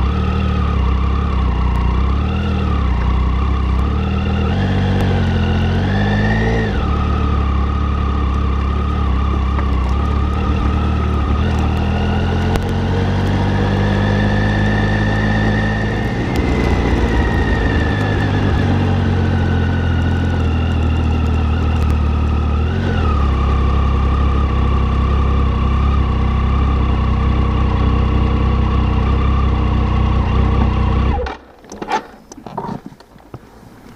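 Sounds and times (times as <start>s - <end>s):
motorcycle engine running: 0.0s - 31.6s.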